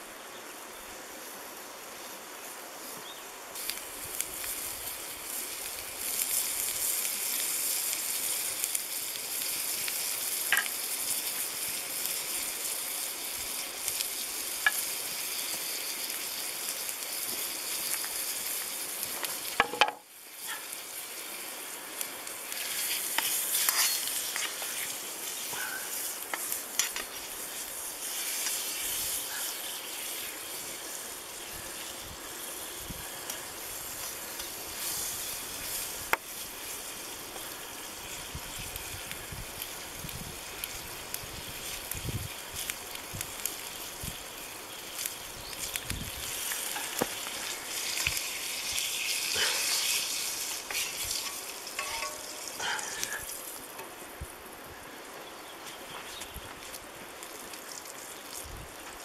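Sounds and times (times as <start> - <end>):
pork fat sizzling in a pan: 0.0 - 59.0.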